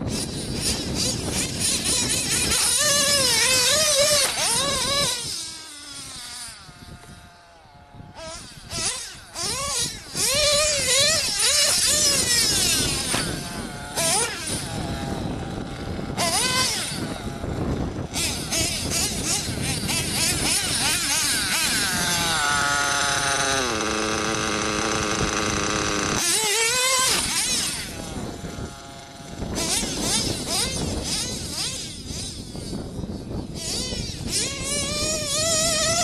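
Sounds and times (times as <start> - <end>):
rc nitro engine revving: 0.0 - 36.0.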